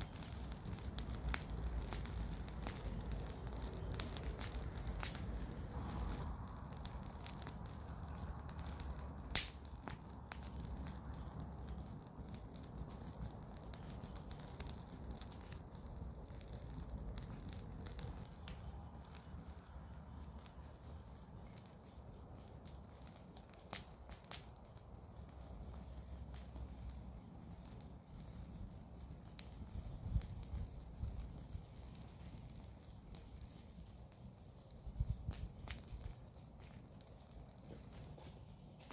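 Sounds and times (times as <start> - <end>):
bonfire crackling and popping: 0.0 - 38.9.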